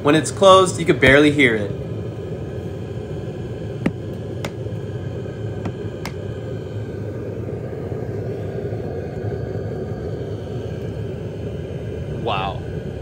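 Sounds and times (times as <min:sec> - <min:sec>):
air heater humming: 0:00.0 - 0:13.0.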